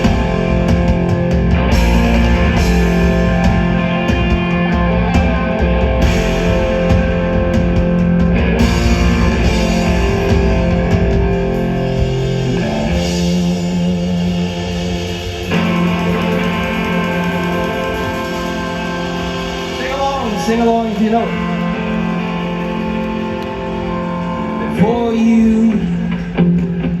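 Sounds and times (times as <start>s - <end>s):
drum kit: 0.0s - 24.3s
bass guitar: 0.0s - 27.0s
electric guitar chords: 0.0s - 27.0s.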